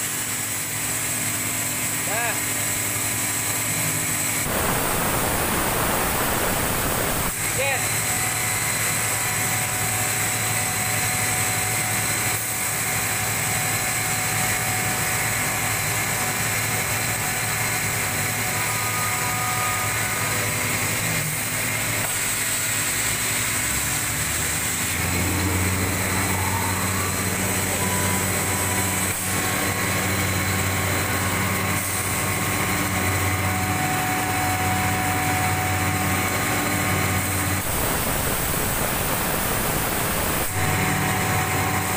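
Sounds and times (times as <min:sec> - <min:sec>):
exhaust fan running: 0:00.0 - 0:18.8, 0:20.1 - 0:41.9.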